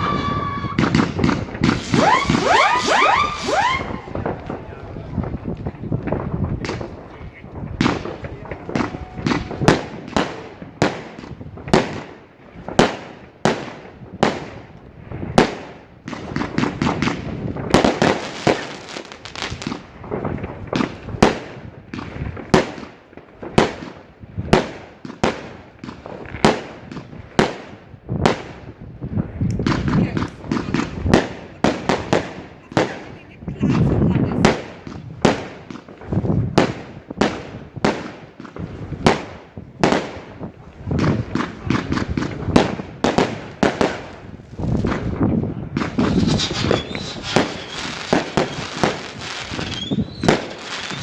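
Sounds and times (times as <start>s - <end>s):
fireworks bangs: 0.0s - 51.0s
fireworks crackling: 0.0s - 51.0s.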